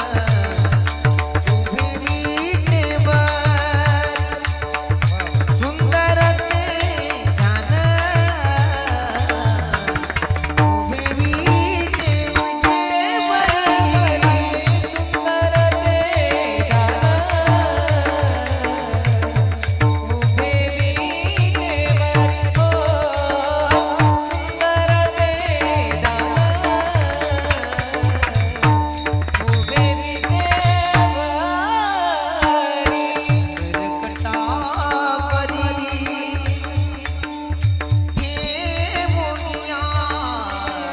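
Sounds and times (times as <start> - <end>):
devotional singing: 0.0 - 37.4.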